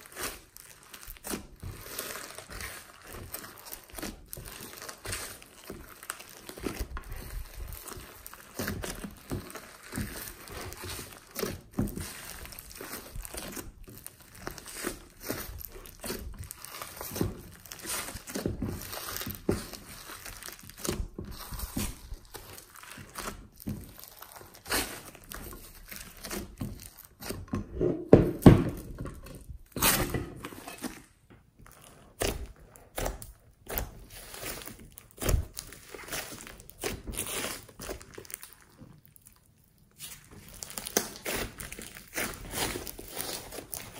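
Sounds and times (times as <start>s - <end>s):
hands squishing sticky slime: 0.0s - 27.5s, 28.2s - 43.9s.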